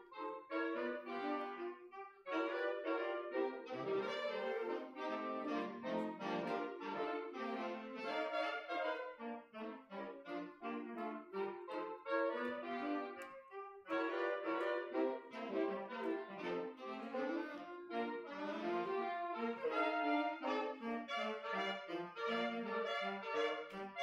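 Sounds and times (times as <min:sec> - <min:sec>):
saxophone quartet playing: 0:00.0 - 0:24.0.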